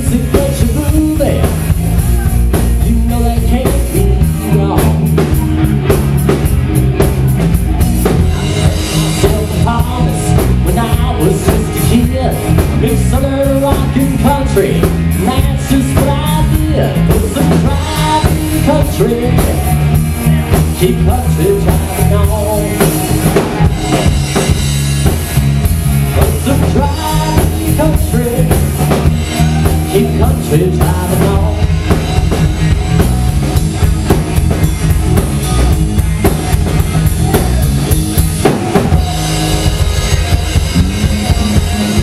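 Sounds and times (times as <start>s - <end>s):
drum kit: 0.0s - 42.0s
electric bass: 0.0s - 42.0s
electric guitar lead: 0.0s - 42.0s.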